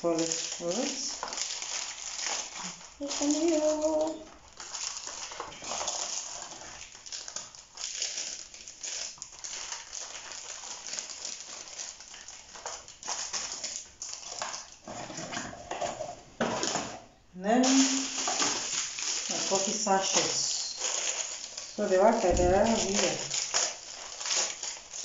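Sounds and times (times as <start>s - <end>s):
paper sachets crinkling: 0.0s - 16.8s, 17.5s - 25.0s.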